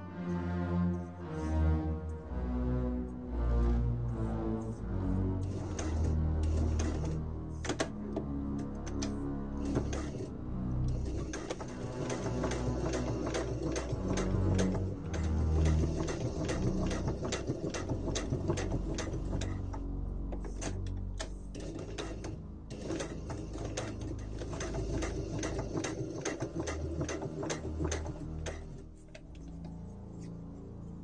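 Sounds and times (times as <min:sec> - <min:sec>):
sewing machine motor hum: 0:05.2 - 0:30.2.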